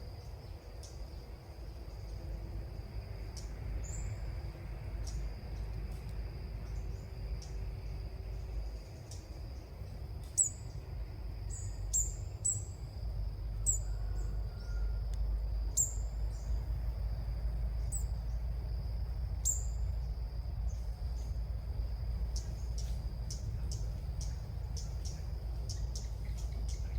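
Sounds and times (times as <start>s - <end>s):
high insect-like whine: 0.0s - 26.9s.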